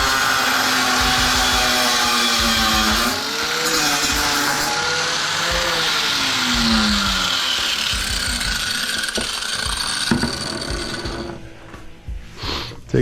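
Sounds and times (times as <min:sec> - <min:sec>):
power grinder grinding metal: 0:00.0 - 0:11.5.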